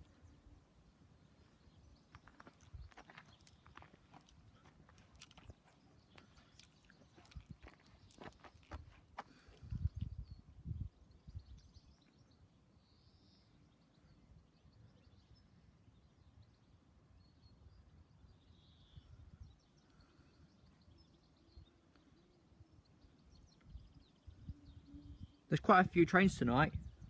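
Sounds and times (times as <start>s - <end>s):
faint bird chirps: 0.0s - 25.6s.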